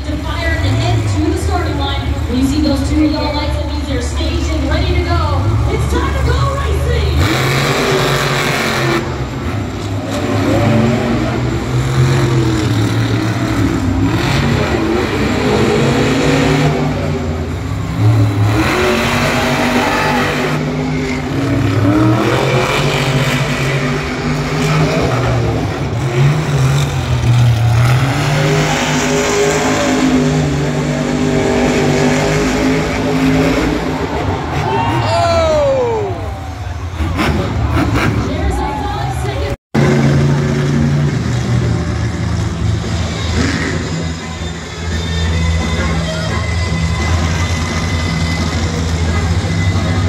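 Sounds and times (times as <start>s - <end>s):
truck engine revving hard: 0.0s - 50.0s.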